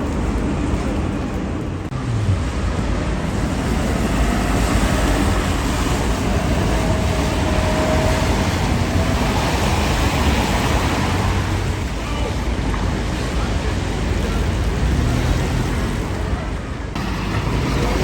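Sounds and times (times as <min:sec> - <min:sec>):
passing vehicles: 0:00.0 - 0:18.0.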